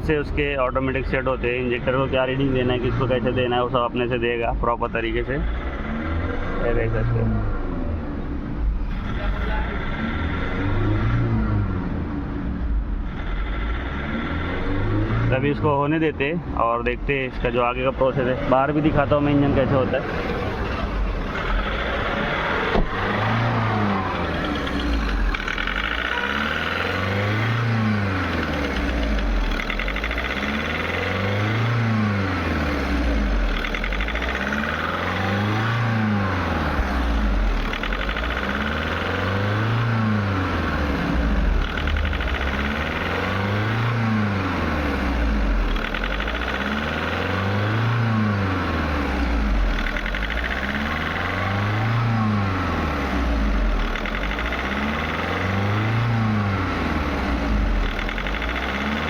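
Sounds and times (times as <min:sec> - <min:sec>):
diesel engine revs rising and falling: 0:00.0 - 0:59.0.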